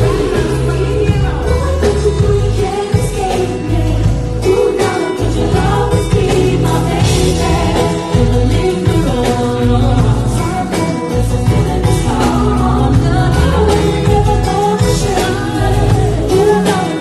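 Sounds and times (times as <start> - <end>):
band with strong bass: 0.0 - 17.0
woman singing: 0.0 - 17.0.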